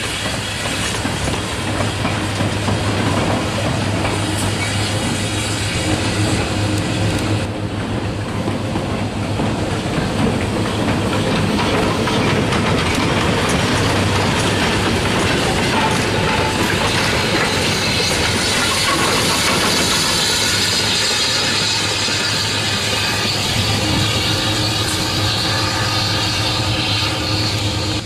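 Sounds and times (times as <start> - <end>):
wheels clattering over rail joints: 0.0 - 27.8
steam locomotive passing: 0.0 - 28.0.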